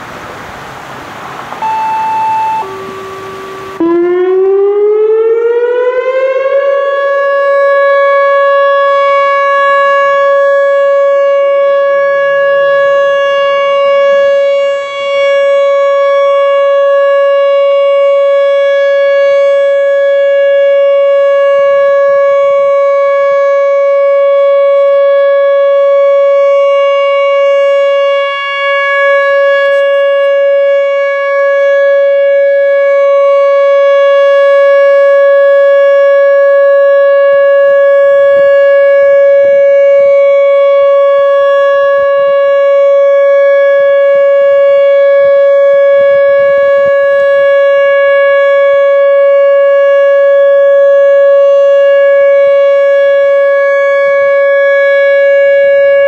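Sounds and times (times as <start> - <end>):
warning siren rising then steady: 0.0 - 56.0.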